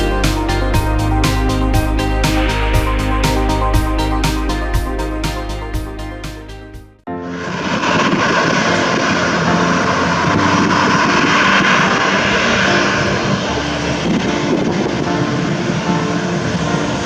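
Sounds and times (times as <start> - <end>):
jet engines rushing: 0.0 - 6.3, 7.2 - 17.0.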